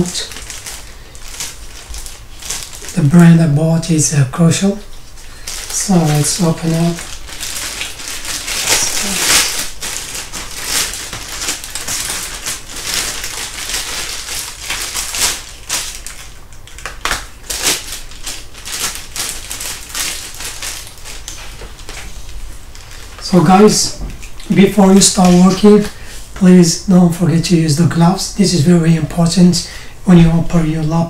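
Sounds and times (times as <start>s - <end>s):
plastic bag crinkling: 0.0s - 26.5s.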